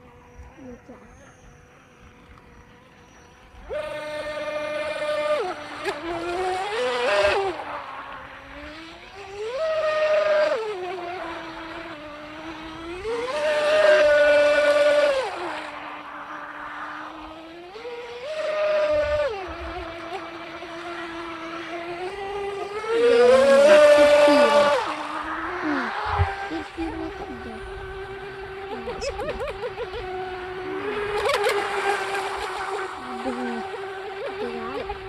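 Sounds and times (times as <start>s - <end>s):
electric motor and propeller whining: 0.0s - 35.0s.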